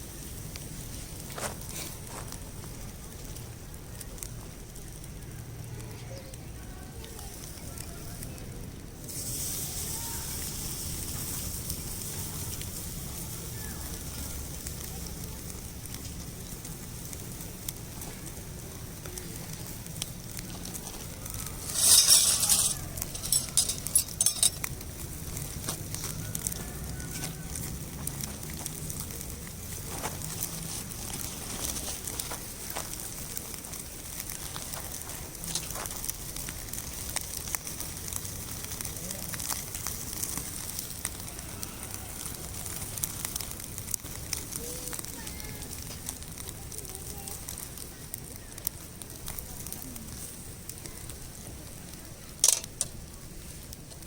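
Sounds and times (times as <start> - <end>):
fire hissing: 0.0 - 54.0
firewood crackling and popping: 0.0 - 54.0.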